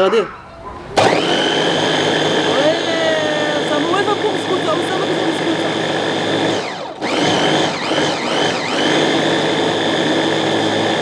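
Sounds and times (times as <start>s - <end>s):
food chopper motor whine: 1.0s - 11.0s.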